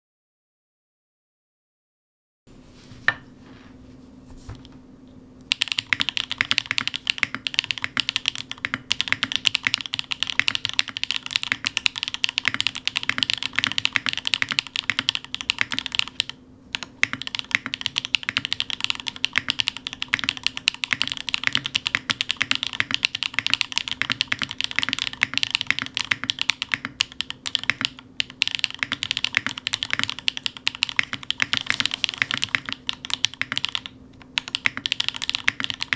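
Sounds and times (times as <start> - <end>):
fast typing on mechanical keyboard: 5.5 - 35.9.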